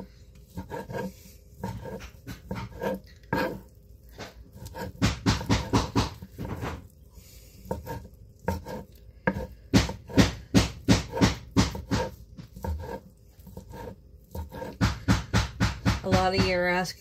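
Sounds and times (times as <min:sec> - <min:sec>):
knife chopping on wooden board: 0:00.0 - 0:07.0, 0:07.6 - 0:16.6.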